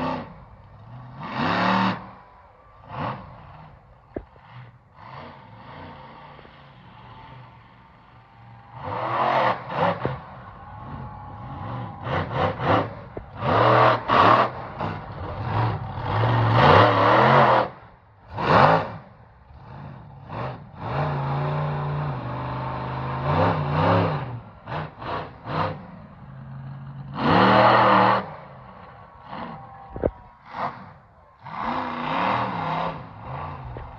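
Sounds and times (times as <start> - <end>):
monster truck engine revving: 0.0 - 33.9.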